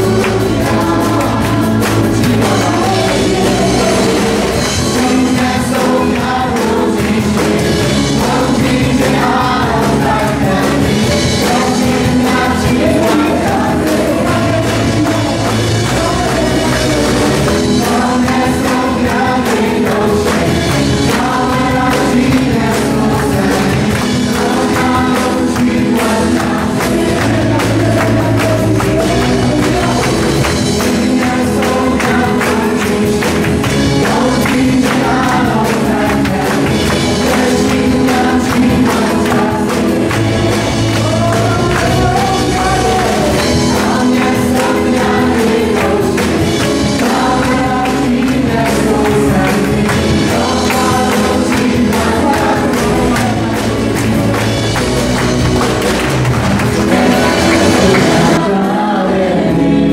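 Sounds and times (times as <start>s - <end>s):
drums: 0.0s - 59.9s
electric guitar: 0.0s - 59.9s
voices singing together: 0.0s - 59.9s.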